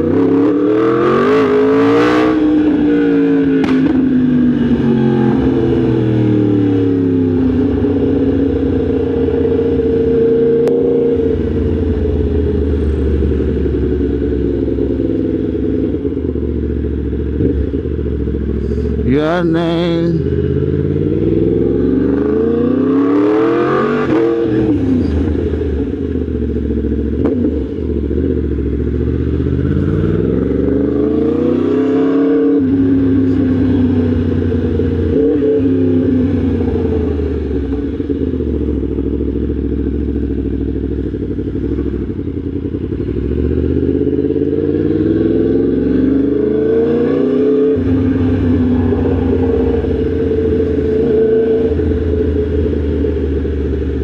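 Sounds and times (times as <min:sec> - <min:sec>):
motorcycle engine riding along: 0:00.0 - 0:54.0.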